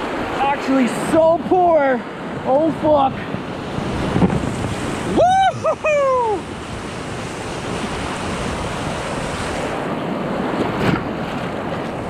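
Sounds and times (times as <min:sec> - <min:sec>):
river rushing through rapids: 0:00.0 - 0:12.0
wind on microphone: 0:00.0 - 0:12.0.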